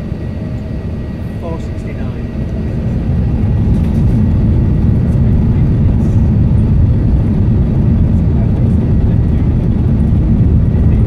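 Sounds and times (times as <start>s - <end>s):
airplane cabin rumble while taxiing: 0.0s - 11.0s.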